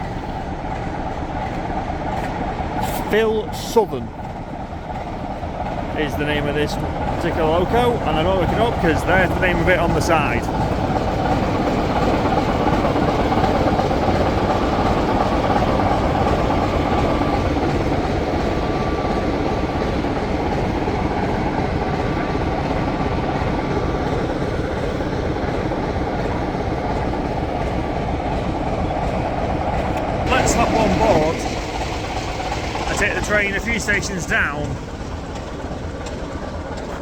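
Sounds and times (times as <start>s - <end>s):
diesel locomotive engine idling: 0.0s - 37.0s.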